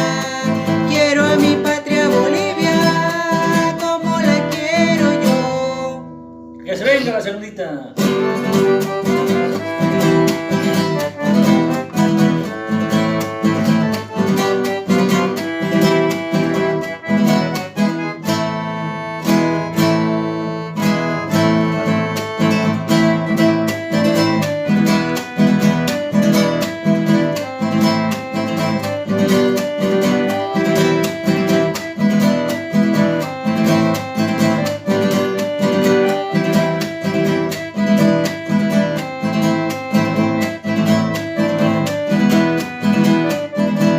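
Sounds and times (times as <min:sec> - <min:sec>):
acoustic guitar strummed and plucked: 0:00.0 - 0:43.9.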